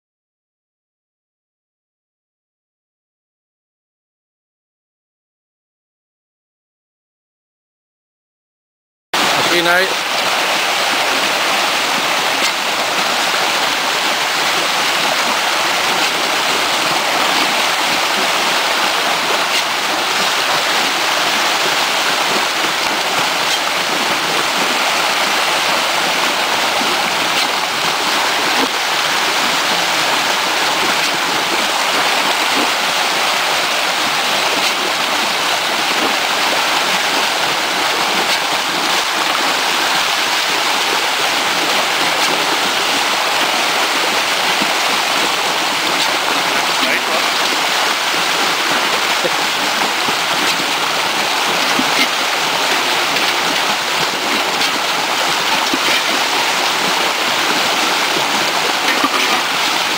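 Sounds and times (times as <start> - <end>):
fish splashing in water: 9.2 - 59.9.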